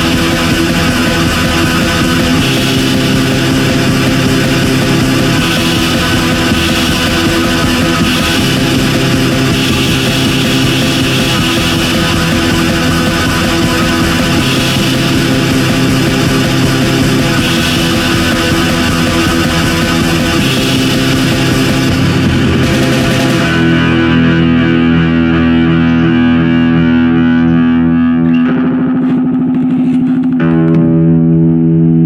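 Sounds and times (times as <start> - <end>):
drums: 0.0 - 31.0
distorted electric guitar: 0.0 - 32.0.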